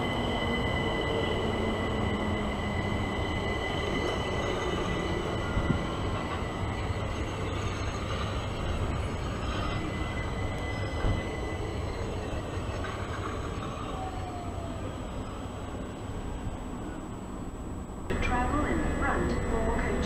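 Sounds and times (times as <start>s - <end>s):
high train whine: 0.0s - 20.0s
train rumbling: 0.0s - 20.0s.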